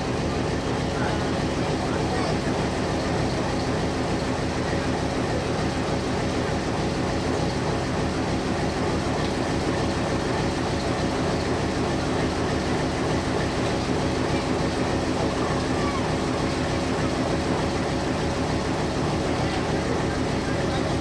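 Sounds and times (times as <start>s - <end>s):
locomotive engine idling: 0.0s - 21.0s.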